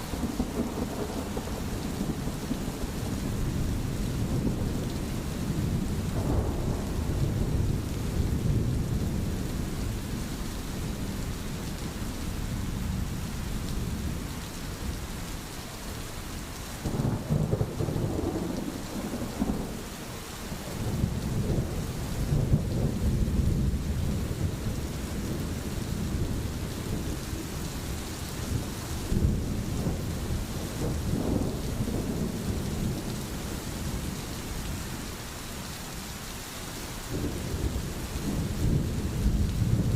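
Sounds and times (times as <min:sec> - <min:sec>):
rolling thunder rumbles: 0:00.0 - 0:15.0, 0:16.8 - 0:35.0, 0:37.1 - 0:39.9
steady rain: 0:00.0 - 0:39.9.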